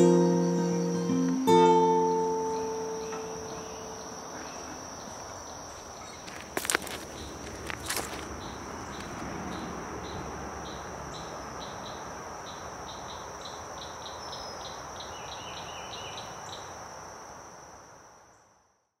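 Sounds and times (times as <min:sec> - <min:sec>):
high insect drone: 0:00.0 - 0:18.9
soft outdoor hiss: 0:00.0 - 0:19.0.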